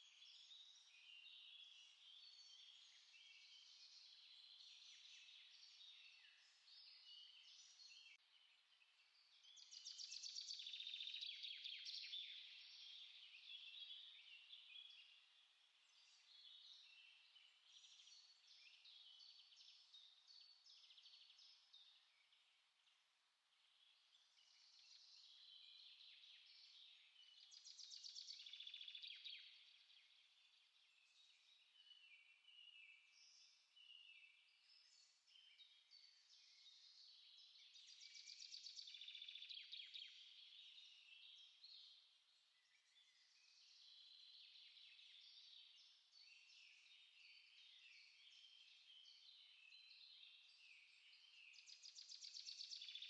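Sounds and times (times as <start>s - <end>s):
small songbirds singing: 0.0s - 53.0s.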